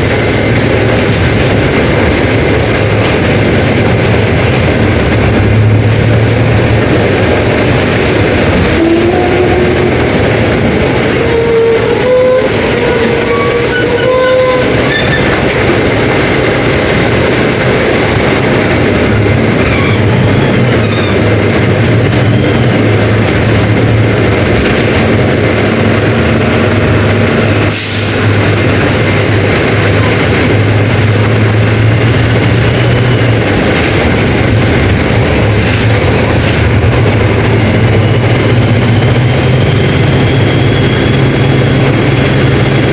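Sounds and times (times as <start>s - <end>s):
diesel bus engine drone: 0.0s - 42.9s.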